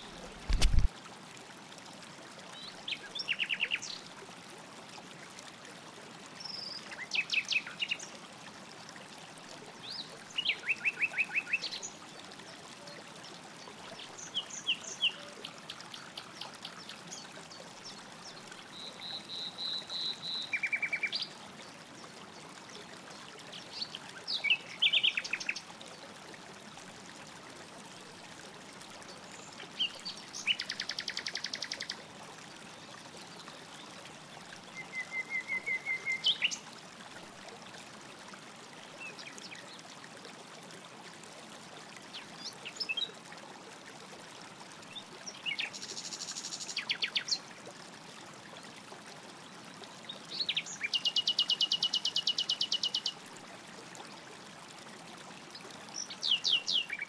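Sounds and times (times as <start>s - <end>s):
flowing stream: 0.0s - 57.0s.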